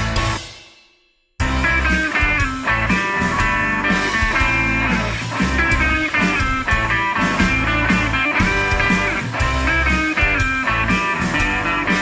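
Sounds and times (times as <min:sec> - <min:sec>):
rock music with guitar and drums: 0:00.0 - 0:00.6, 0:01.4 - 0:12.0.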